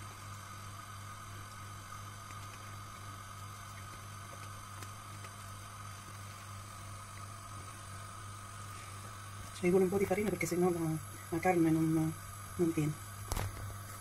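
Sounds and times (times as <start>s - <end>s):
electrical hum: 0.0s - 14.0s
steady hiss: 0.0s - 14.0s.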